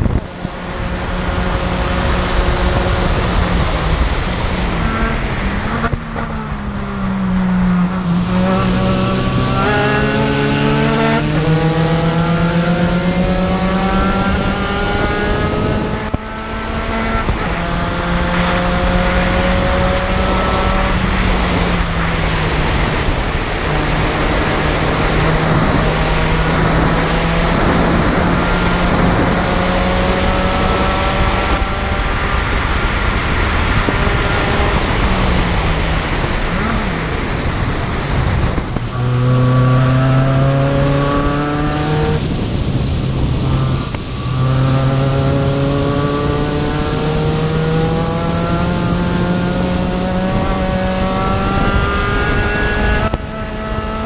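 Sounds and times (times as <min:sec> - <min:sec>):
high steady whine: 0:00.0 - 0:54.0
race car engine revving: 0:00.0 - 0:54.0
wind and road noise: 0:00.0 - 0:54.0.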